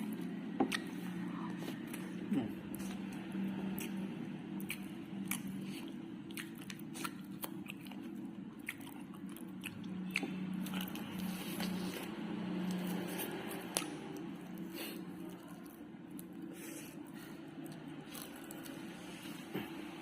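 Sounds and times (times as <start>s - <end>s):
person chewing crunchy food: 0.0s - 19.8s
steady low hum: 0.0s - 20.0s.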